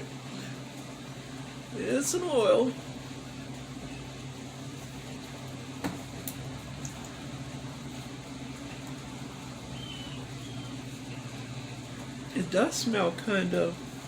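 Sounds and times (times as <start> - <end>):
low hum with faint hiss: 0.0 - 14.0.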